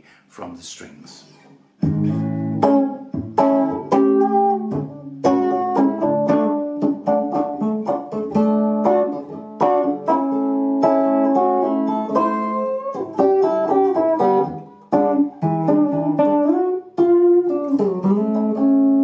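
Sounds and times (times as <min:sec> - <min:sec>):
electric guitar chords and notes: 0:01.8 - 0:19.0.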